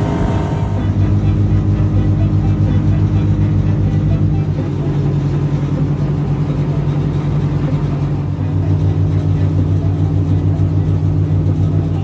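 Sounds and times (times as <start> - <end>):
boat engine droning: 0.0 - 10.6.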